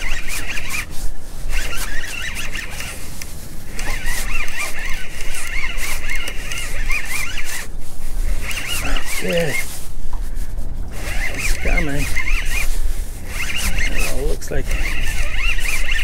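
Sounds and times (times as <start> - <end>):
fishing reel whining: 0.0 - 9.8, 10.4 - 16.0.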